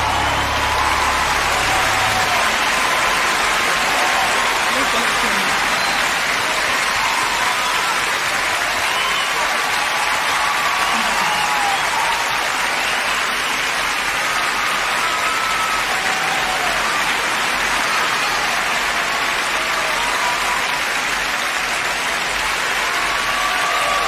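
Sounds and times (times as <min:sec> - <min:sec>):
theatre audience applauding: 0:00.0 - 0:24.0.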